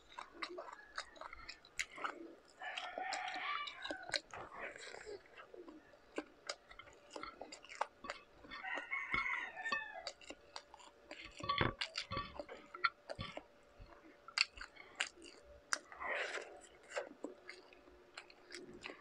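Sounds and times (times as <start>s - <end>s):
small wet clicks: 0.0s - 15.9s
chewing and lip-smacking: 0.0s - 19.0s.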